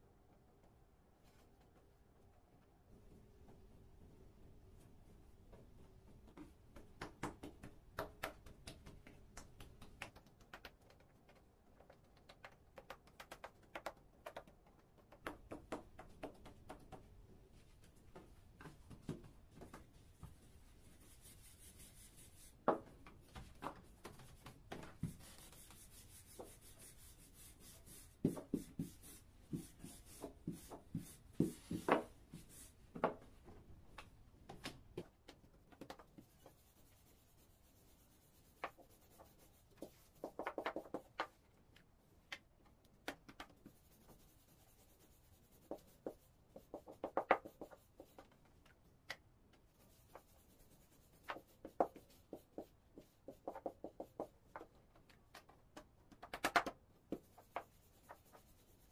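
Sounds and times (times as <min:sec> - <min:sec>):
hands patting dough: 0:06.2 - 0:33.2, 0:33.9 - 0:58.9.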